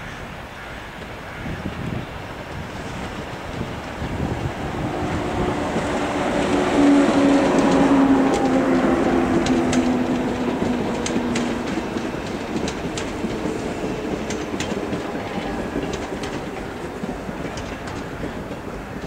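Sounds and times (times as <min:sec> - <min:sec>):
train rumble: 0:00.2 - 0:19.0
train wheels clicking over rail joints: 0:00.9 - 0:19.0.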